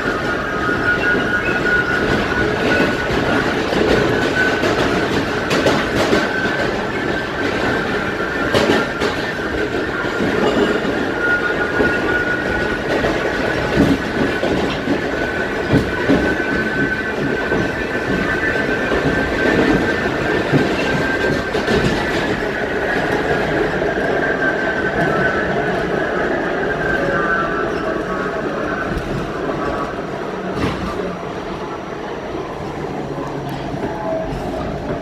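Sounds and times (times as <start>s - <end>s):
subway train drive howl: 0.0s - 35.0s.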